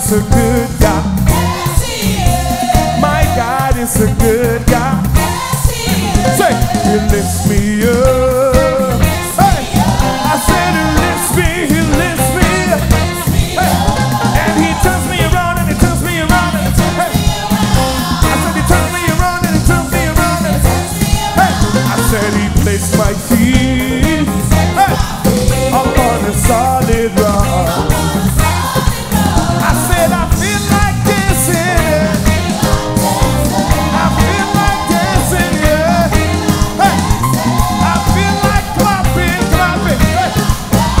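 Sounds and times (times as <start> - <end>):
band with steady beat: 0.0 - 41.0
singers with backing vocals: 0.0 - 41.0.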